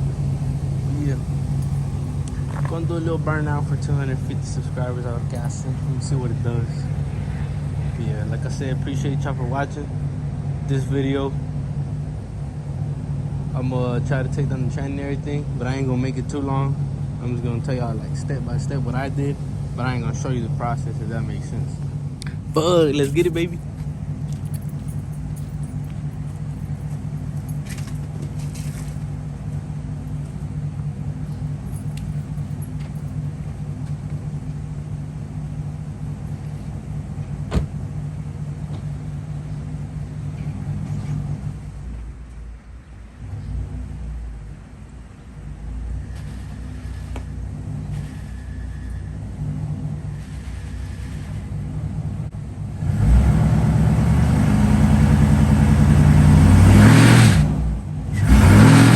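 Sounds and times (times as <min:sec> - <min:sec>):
car engine idling and revving: 0:00.0 - 0:58.9.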